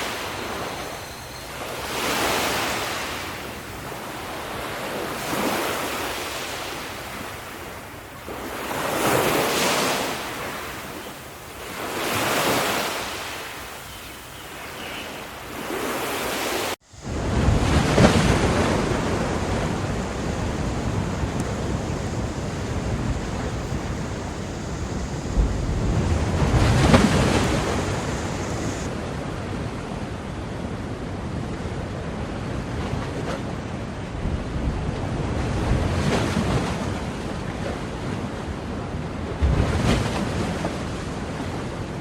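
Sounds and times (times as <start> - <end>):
ocean waves breaking on shore: 0.0 - 42.0.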